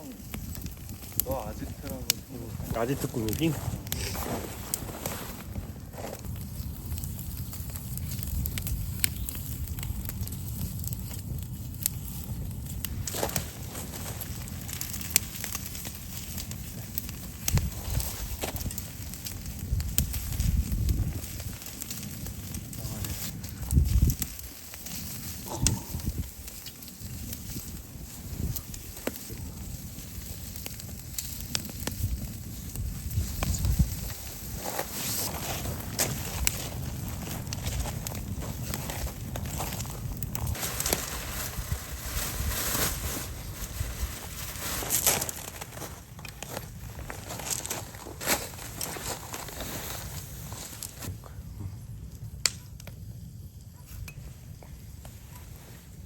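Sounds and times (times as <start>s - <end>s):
wood fire crackling and popping: 0.0s - 51.4s, 52.0s - 55.7s
fire low steady rumble: 0.0s - 56.0s.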